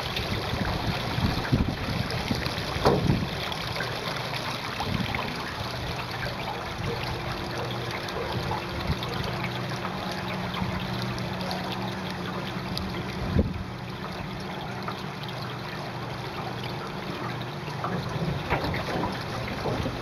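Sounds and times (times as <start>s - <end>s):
water trickling along hull: 0.0s - 20.0s.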